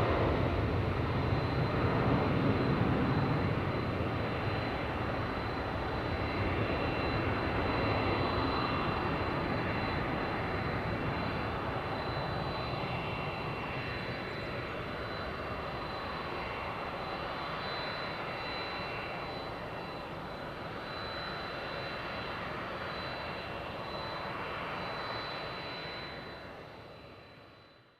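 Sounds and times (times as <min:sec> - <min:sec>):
high jet whine: 0:00.0 - 0:27.9
jet engines rumbling at takeoff: 0:00.0 - 0:27.9.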